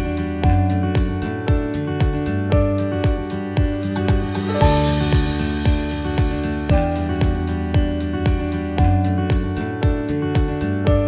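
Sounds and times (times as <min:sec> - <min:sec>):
guitar instrumental music: 0:00.0 - 0:11.0.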